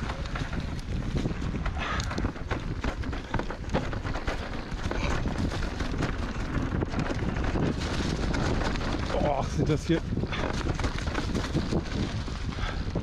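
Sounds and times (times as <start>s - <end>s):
bike clacking and rattling: 0.0s - 13.0s
tyres rumbling on rocky dirt: 0.0s - 13.0s
wind on microphone: 0.0s - 13.0s.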